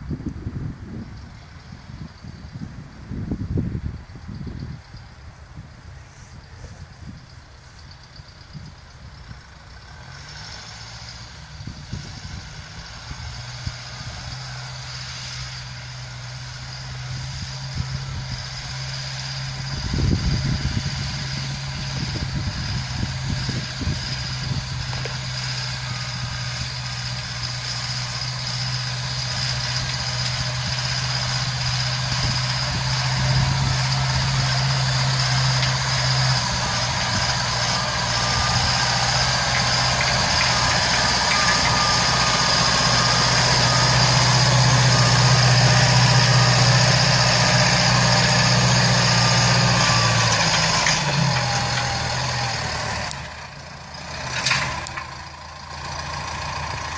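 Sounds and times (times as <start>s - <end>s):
tractor diesel engine: 0.0s - 56.9s.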